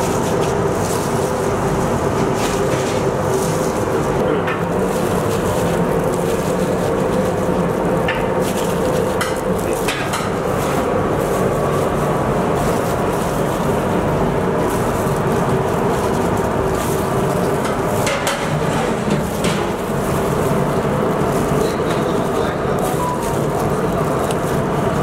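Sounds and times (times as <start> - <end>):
gas range and extraction roar: 0.0 - 25.0.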